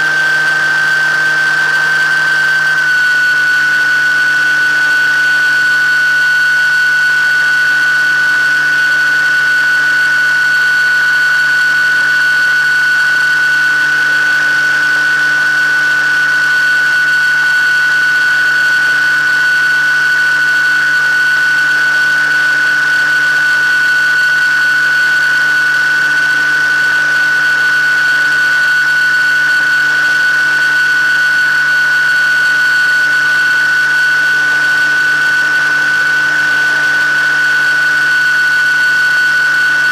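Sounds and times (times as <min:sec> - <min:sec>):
model aircraft motor whining: 0:00.0 - 0:39.9.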